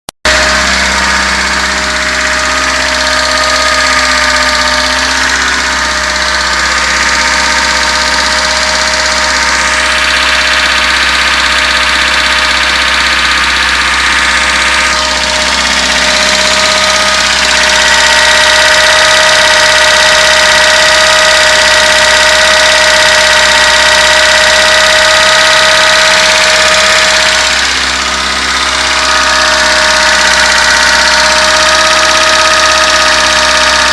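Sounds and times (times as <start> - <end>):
engine knock: 0.2 - 33.9
car engine idling: 0.3 - 33.9.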